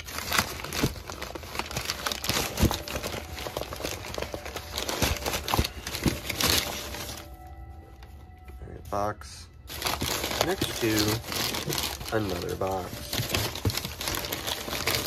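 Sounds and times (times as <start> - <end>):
packing paper rustling and crinkling: 0.0 - 9.0, 9.6 - 15.0.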